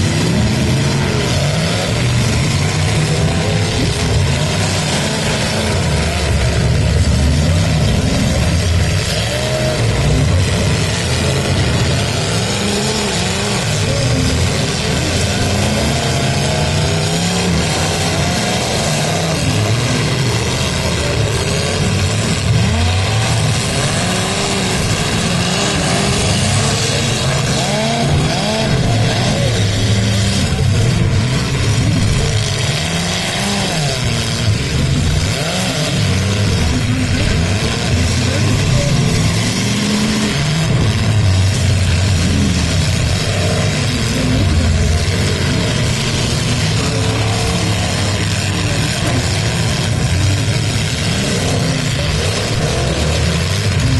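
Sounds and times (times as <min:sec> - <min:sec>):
car engines revving: 0:00.0 - 0:53.9.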